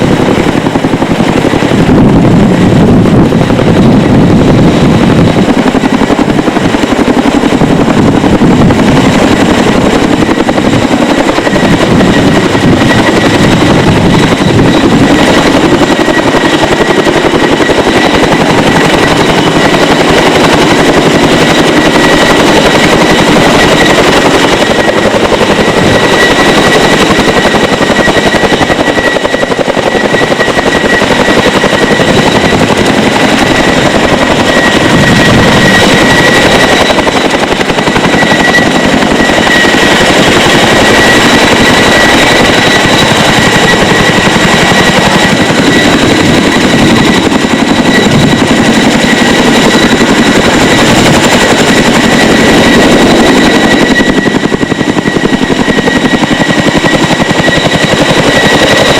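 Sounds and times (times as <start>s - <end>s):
helicopter rotor chop: 0.0s - 58.9s.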